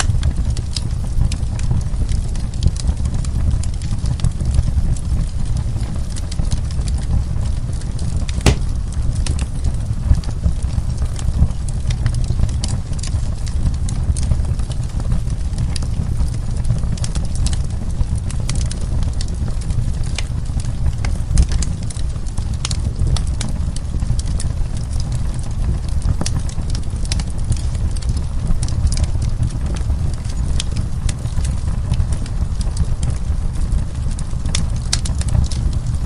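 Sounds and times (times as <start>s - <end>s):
fireplace flames rumbling: 0.0s - 36.0s
fire crackling and popping: 0.1s - 36.0s.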